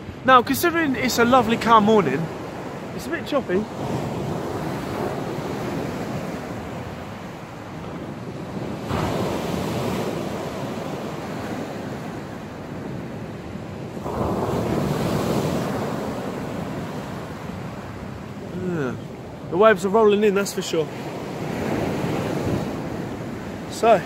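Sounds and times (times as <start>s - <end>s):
surf washing on beach: 0.0s - 24.0s
waves crashing: 0.0s - 24.0s.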